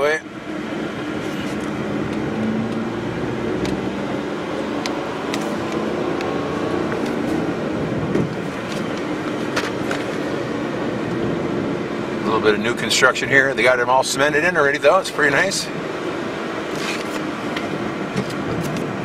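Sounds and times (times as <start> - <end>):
car engine and road noise hum: 0.0 - 19.0.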